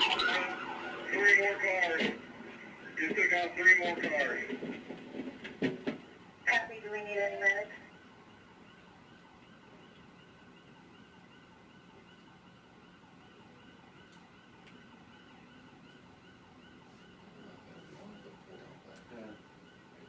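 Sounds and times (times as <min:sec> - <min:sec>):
faint police siren: 0:00.0 - 0:20.0.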